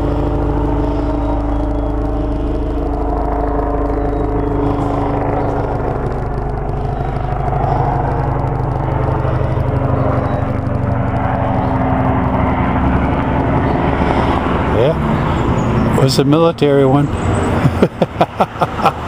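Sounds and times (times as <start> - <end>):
military aircraft engine drone: 0.0 - 19.0.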